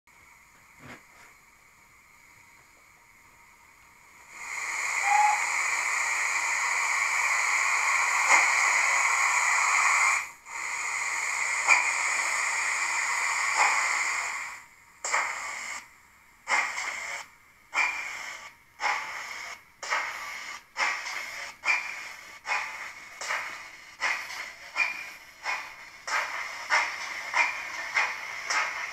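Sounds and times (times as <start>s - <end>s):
steam locomotive exhaust chuffs: 0.2s - 28.9s
steam hissing: 4.0s - 15.9s, 16.5s - 28.9s.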